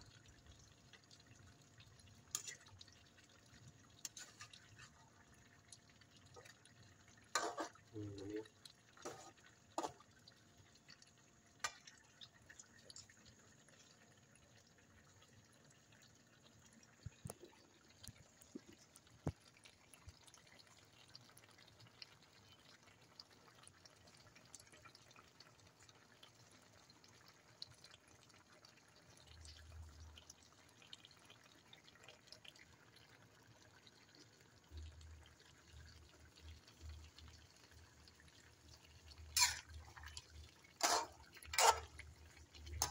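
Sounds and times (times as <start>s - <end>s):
sauce bubbling in a pan: 0.0s - 42.9s.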